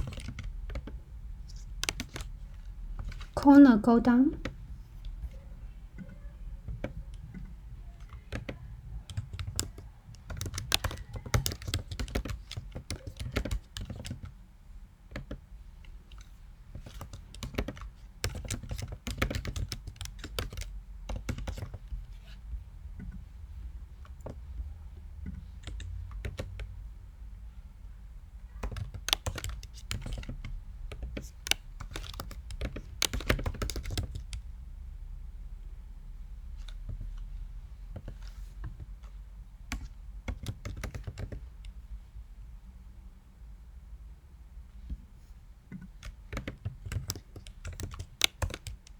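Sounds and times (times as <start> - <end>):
typing on a computer keyboard: 0.0 - 26.9, 28.5 - 34.6, 36.6 - 41.8, 45.7 - 48.9.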